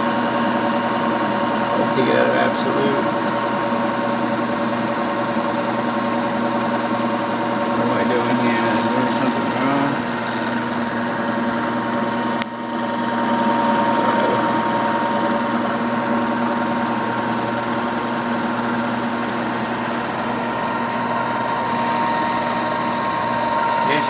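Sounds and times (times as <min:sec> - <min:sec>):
milling machine whine: 0:00.0 - 0:24.0.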